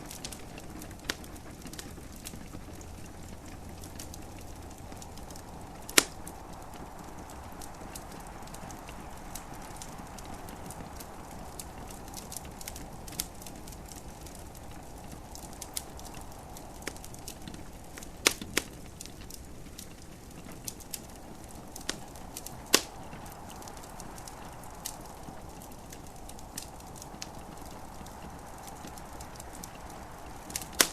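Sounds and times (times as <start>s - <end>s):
gentle rain hiss: 0.0s - 30.9s
wood fire crackling: 0.0s - 30.9s.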